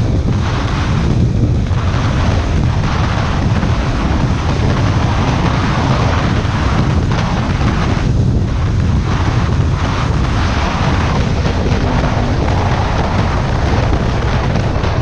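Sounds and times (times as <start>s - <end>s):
motorcycle engine exhaust: 0.0s - 15.0s
wind buffeting microphone: 0.0s - 15.0s.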